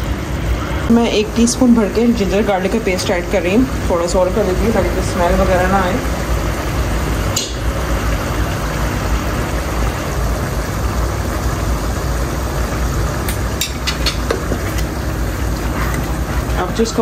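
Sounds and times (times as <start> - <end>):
kitchen rumble and hiss: 0.0 - 17.0.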